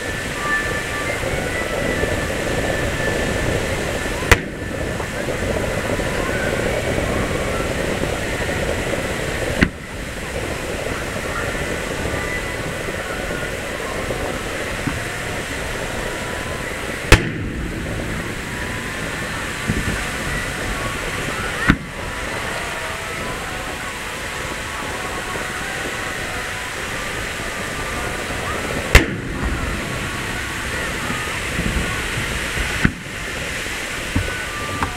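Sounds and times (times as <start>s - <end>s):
murmur of crowd: 0.0s - 34.9s
firework shells booming: 3.3s - 34.9s.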